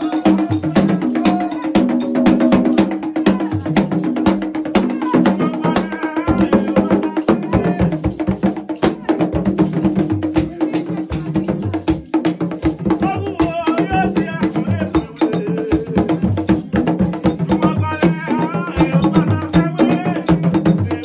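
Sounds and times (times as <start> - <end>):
fast drumming: 0.0 - 21.0
shaken rattle: 0.0 - 21.0
voices singing: 0.0 - 21.0.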